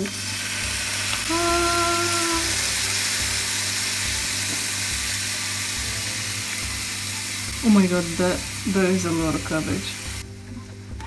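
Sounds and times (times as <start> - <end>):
vegetables sizzling in hot oil: 0.0 - 10.3.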